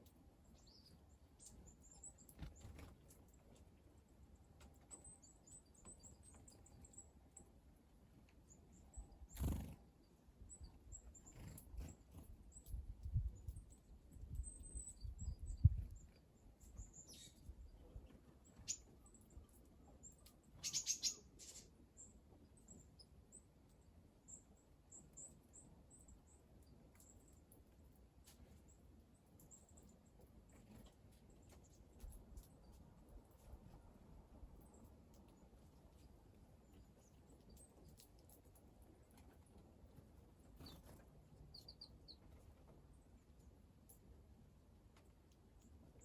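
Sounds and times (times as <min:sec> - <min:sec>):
small birds chirping: 0:00.0 - 0:33.8, 0:34.4 - 0:44.1.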